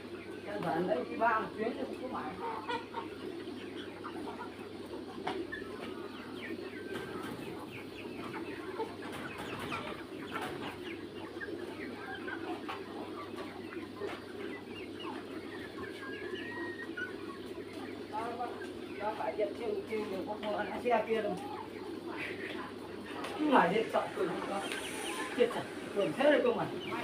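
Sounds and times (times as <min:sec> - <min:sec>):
chickens clucking and peeping: 0:00.0 - 0:27.0.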